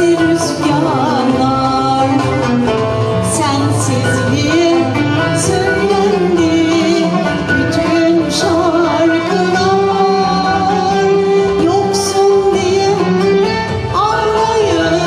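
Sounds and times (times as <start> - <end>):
cello: 0.0 - 15.0
violin: 0.0 - 15.0
woman singing with vibrato: 0.0 - 15.0.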